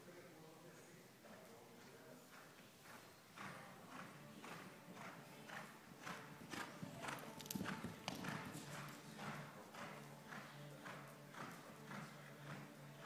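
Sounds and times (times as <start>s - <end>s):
horse hooves on sand: 2.3s - 13.0s.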